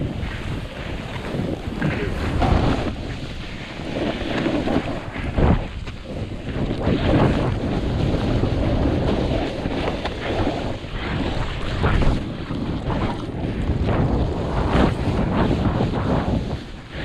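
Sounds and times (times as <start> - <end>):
snowboard scraping over snow: 0.0 - 17.0
wind rushing over microphone: 0.0 - 17.0.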